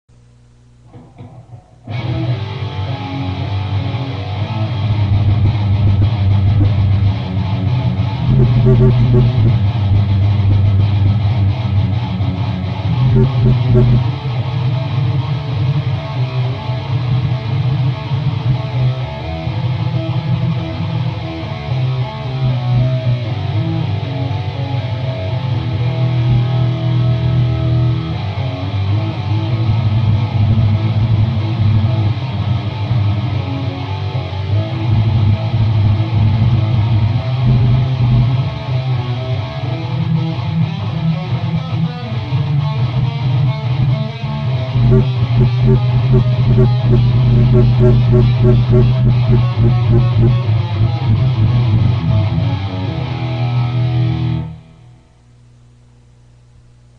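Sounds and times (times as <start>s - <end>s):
electric guitar riffs: 0.5s - 54.8s.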